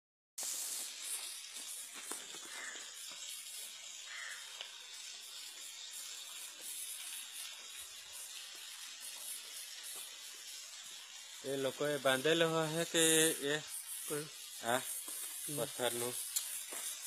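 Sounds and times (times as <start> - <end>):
water splashing onto stones: 0.4 - 17.0.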